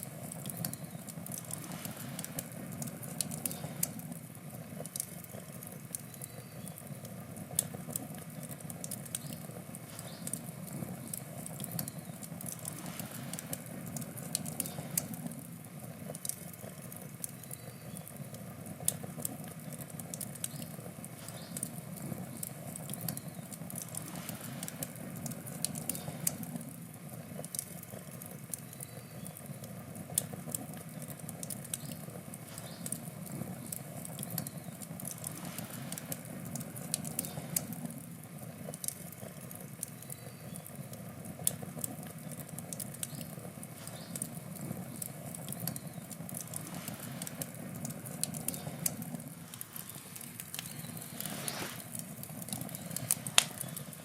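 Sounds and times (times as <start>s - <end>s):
campfire burning: 0.0s - 54.0s.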